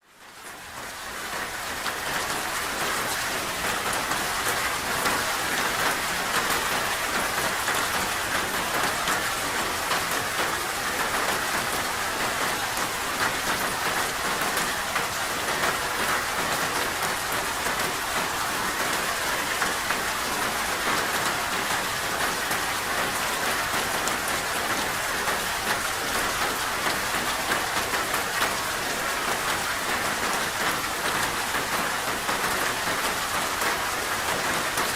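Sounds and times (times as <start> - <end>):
steady rain patter: 0.0 - 34.9.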